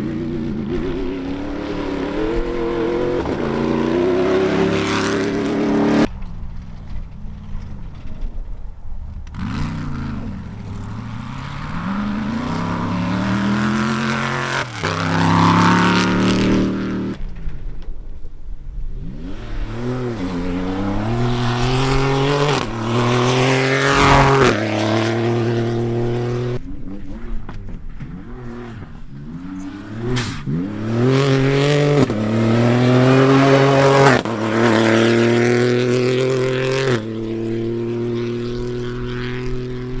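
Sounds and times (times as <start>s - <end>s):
race cars accelerating on dirt: 0.0s - 17.8s, 18.9s - 40.0s.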